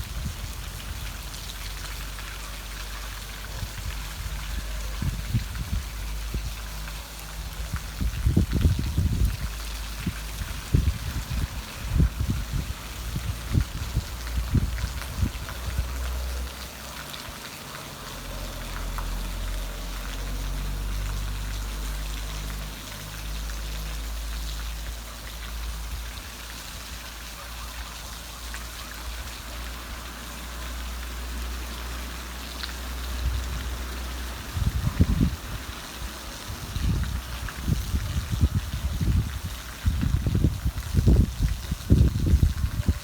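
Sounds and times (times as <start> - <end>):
individual raindrops: 0.0 - 43.0
rain falling: 0.0 - 43.0.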